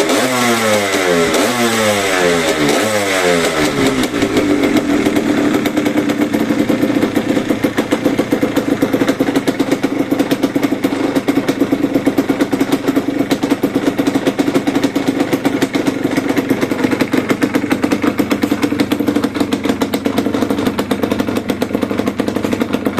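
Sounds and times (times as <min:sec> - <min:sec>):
two-stroke engine idling: 0:00.0 - 0:22.9.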